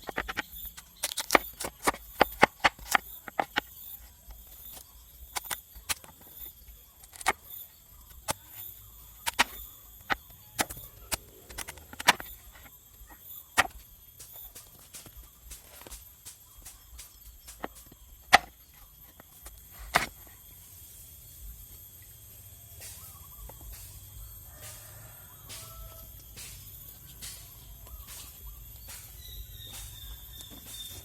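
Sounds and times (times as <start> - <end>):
wood being chopped: 0.0 - 20.3, 24.6 - 31.0
faint high-pitched hum: 0.0 - 31.0.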